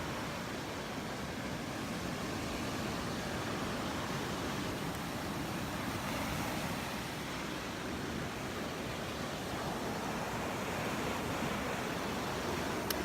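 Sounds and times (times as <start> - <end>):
surf washing onto beach: 0.0 - 13.0
wind: 0.0 - 13.0.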